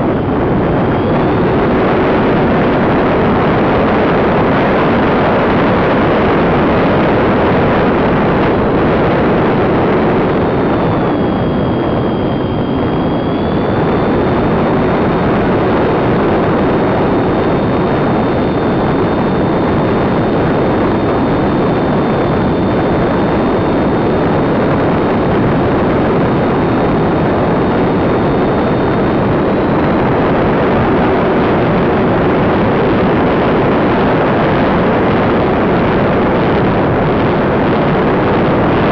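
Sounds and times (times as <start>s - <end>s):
high motor whine: 0.0s - 38.9s
wind rushing over microphone: 0.0s - 38.9s.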